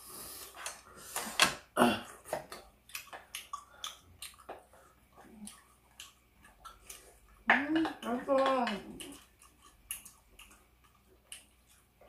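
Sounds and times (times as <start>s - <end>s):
wet chewing and lip smacks: 2.3s - 12.0s.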